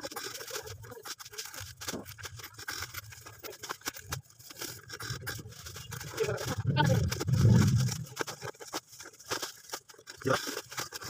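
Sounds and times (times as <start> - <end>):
plastic bags crinkling: 0.0 - 11.0
small clicks and scrapes: 0.0 - 11.0.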